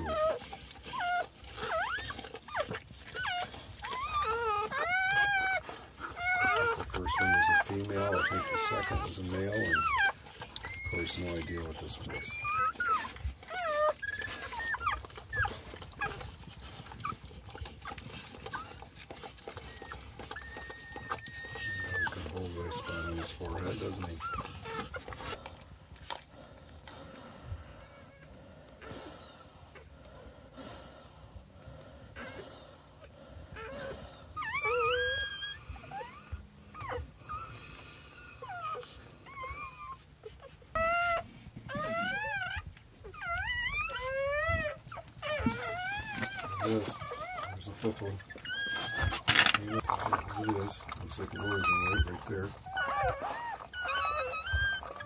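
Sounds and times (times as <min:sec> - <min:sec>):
high wavering dog whine: 0:00.0 - 0:26.3, 0:32.2 - 0:55.0
puppies squeaking: 0:00.0 - 0:29.9, 0:32.2 - 0:55.0
dog breathing heavily: 0:00.0 - 0:55.0.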